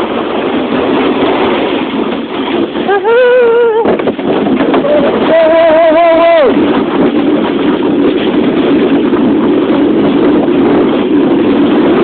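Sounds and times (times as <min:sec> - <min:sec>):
sled rushing noise: 0:00.0 - 0:12.0.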